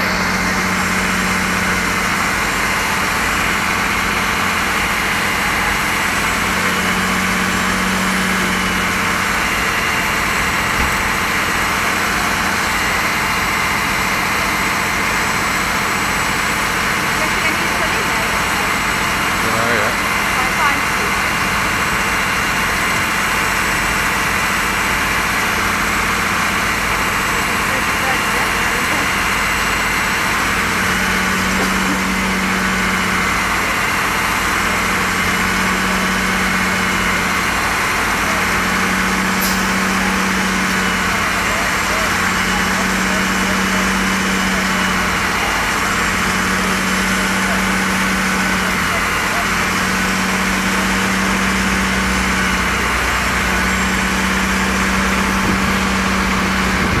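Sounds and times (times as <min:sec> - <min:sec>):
fire engine pump running: 0:00.0 - 0:57.0.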